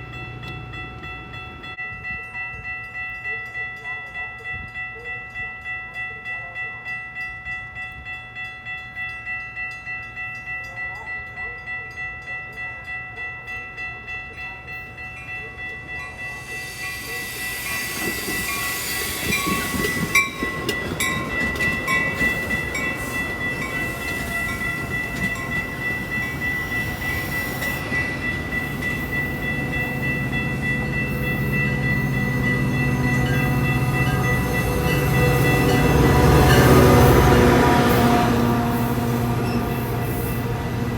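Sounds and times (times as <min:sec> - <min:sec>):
crossing bell ringing: 0:00.0 - 0:40.9
train rumble and wheel noise: 0:00.0 - 0:40.9.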